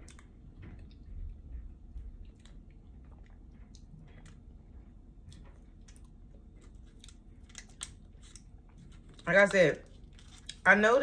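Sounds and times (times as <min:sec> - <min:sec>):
person chewing: 0:00.0 - 0:10.7.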